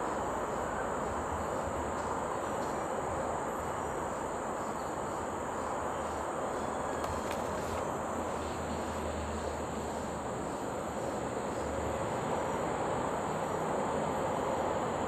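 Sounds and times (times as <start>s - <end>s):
insects chirring: 0.0s - 15.0s
outdoor background hum: 0.0s - 15.0s.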